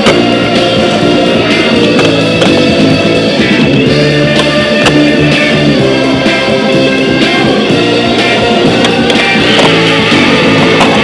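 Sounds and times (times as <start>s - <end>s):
loud rock music with guitar: 0.0s - 11.0s.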